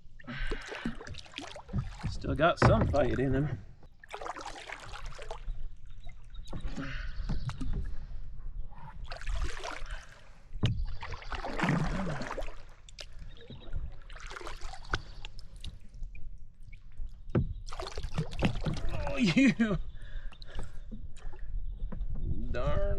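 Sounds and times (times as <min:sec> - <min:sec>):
water splashing and sloshing: 0:00.0 - 0:22.9.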